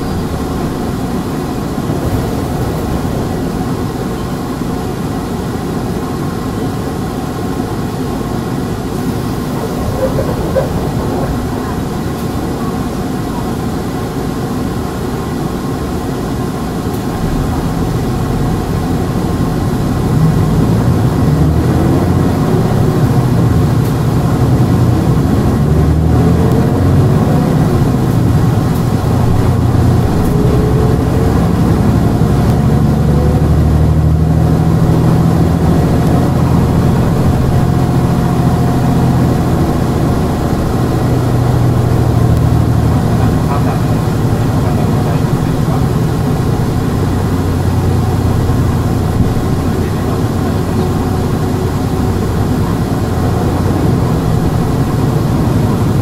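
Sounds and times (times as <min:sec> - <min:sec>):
diesel bus engine running: 0:00.0 - 0:56.0.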